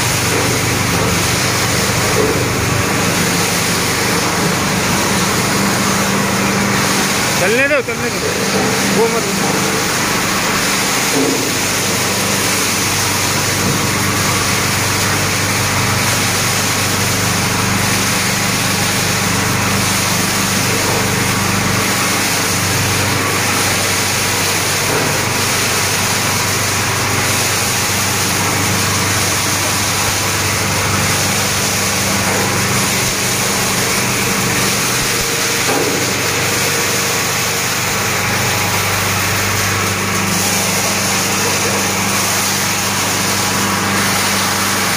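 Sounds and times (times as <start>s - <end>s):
machine drone with low hum: 0.0s - 44.9s.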